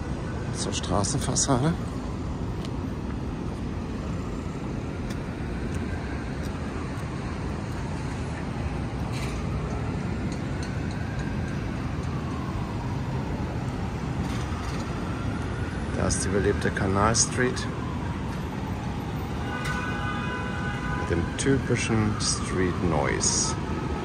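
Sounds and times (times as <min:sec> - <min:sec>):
city street traffic: 0:00.0 - 0:24.0
faint siren wailing: 0:00.0 - 0:24.0.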